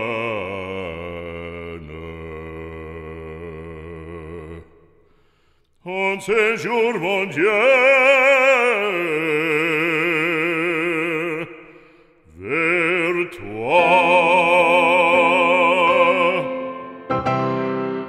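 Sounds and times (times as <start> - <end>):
operatic solo singing with vibrato: 0.0 - 4.9, 5.8 - 17.2.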